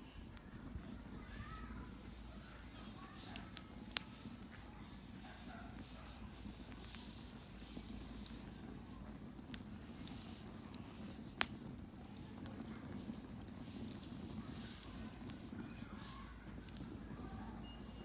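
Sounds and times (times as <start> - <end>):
fire popping sharply: 0.0 - 18.0
wood bonfire burning: 0.0 - 18.0.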